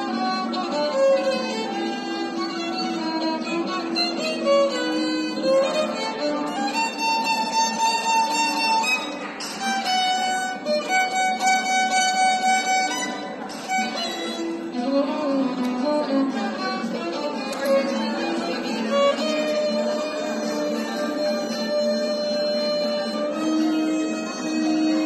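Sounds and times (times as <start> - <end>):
solo violin melody: 0.0 - 25.0.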